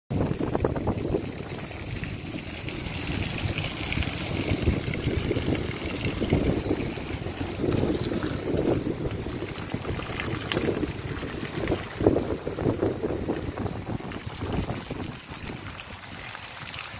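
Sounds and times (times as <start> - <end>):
wind gusting on microphone: 0.1 - 16.9
heavy rain falling: 0.2 - 16.9.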